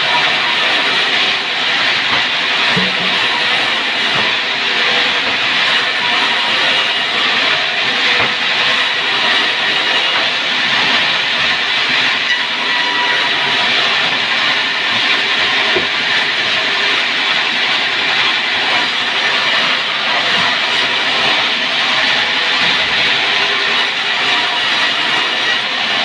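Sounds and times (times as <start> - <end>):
power tool hissing on wood: 0.1 - 26.0.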